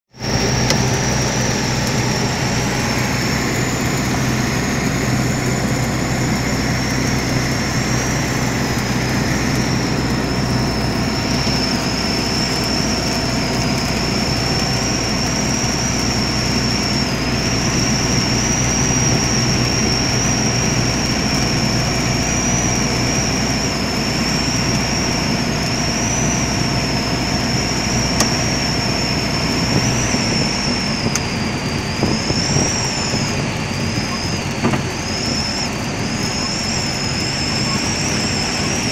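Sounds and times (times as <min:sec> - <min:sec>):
propeller engine drone: 0:00.1 - 0:38.9
thin high whistle: 0:00.2 - 0:38.9.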